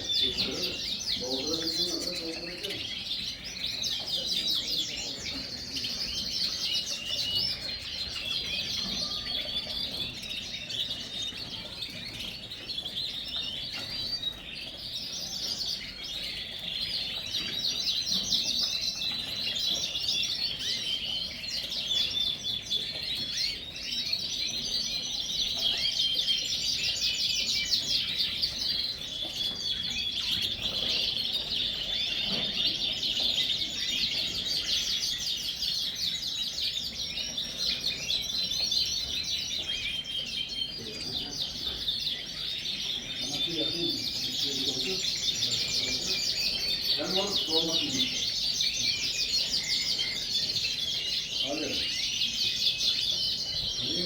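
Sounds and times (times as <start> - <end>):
canaries singing trills and chirps: 0.0 - 54.0.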